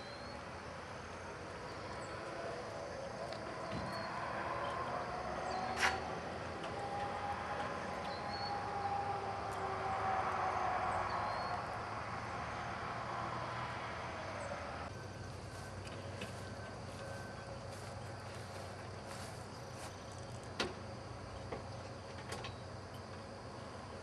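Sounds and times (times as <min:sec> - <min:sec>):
distant engine drone: 0:00.0 - 0:24.0.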